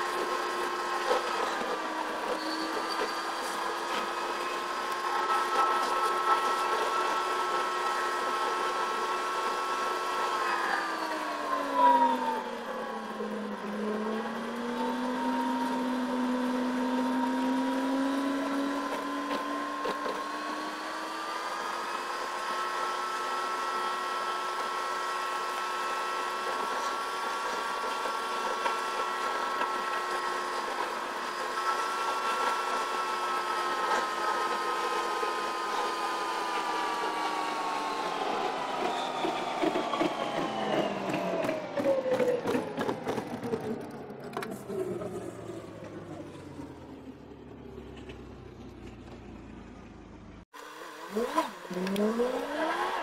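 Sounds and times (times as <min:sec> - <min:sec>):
car engine and drivetrain hum: 0:00.0 - 0:53.0.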